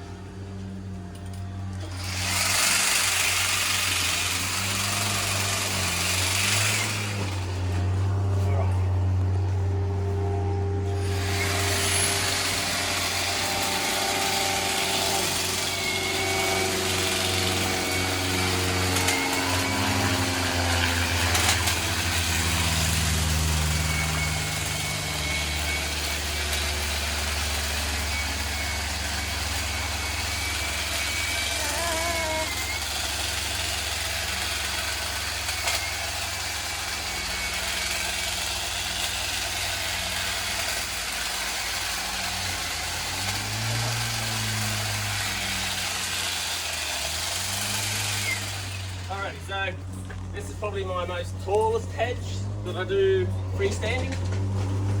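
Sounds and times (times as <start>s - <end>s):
hedge trimmer motor hum: 0.0s - 55.0s.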